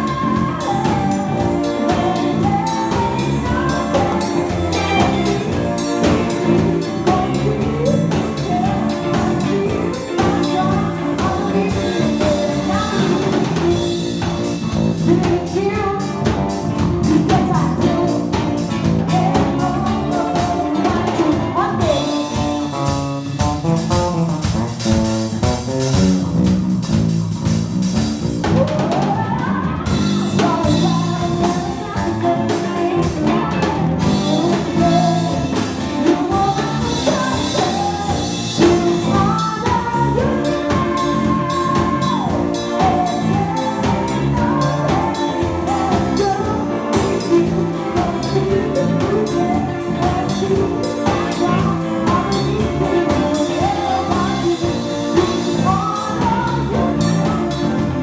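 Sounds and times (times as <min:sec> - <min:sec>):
person singing: 0:00.0 - 0:24.7, 0:28.2 - 0:58.0
live band playing: 0:00.0 - 0:58.0
steady drum beat: 0:00.0 - 0:58.0.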